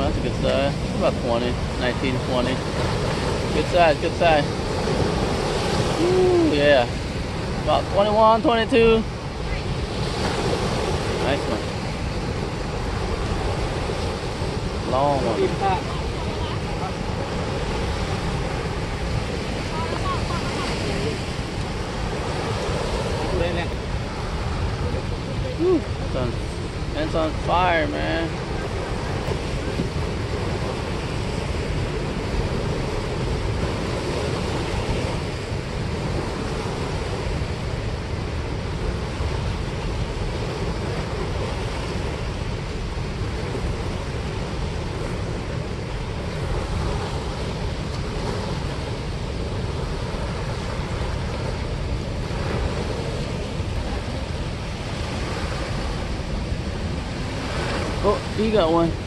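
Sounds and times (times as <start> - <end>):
turbulent water rushing: 0.0 - 59.0.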